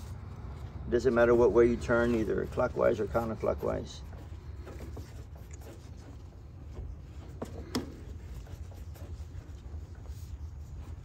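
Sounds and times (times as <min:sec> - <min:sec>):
low steady hum: 0:00.0 - 0:11.0
tubing cutter scratching on pipe: 0:00.9 - 0:11.0.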